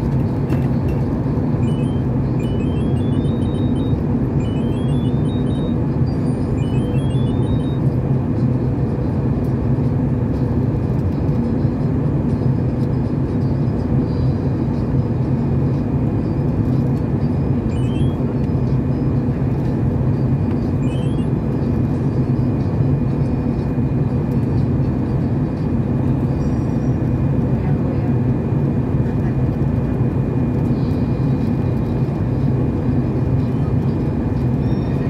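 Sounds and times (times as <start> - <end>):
jet engine cabin roar: 0.0 - 35.0.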